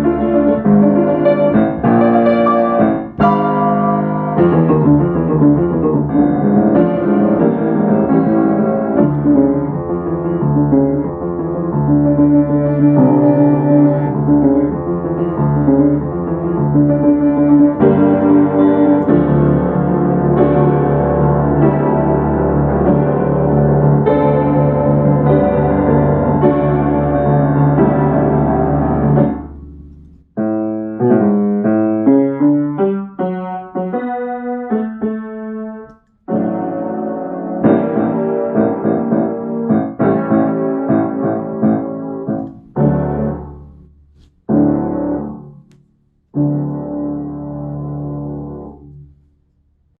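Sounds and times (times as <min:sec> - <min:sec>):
solo piano: 0:00.0 - 0:50.0.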